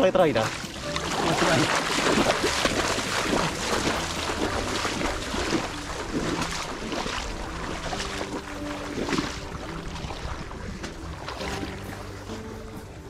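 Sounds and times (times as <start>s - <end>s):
water splashing and sloshing: 0.0s - 13.0s
wind rumbling on microphone: 1.4s - 13.0s.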